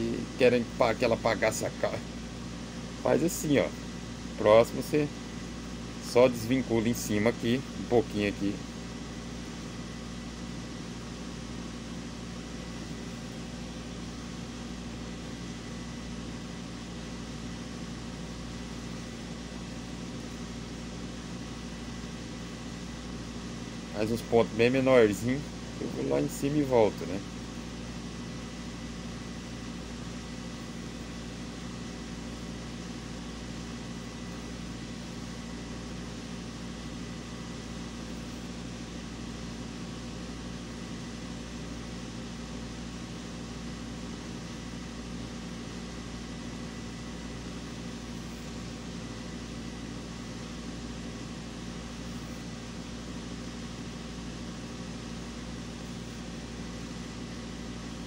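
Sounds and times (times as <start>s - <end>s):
electric motor hum: 0.0s - 58.0s.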